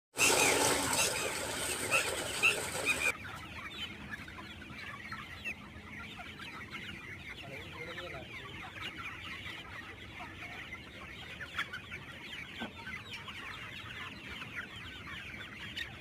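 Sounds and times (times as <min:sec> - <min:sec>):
chickens clucking: 0:00.2 - 0:16.0.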